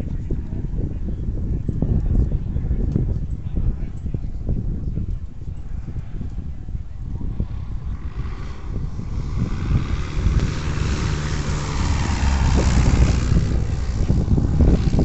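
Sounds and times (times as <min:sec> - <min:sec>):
propeller airplane flying overhead: 0:00.0 - 0:15.0.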